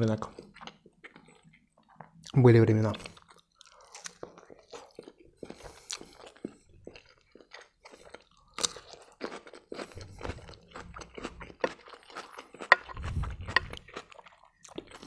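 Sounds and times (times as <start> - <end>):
crunchy chewing of pickle: 0.2 - 15.0.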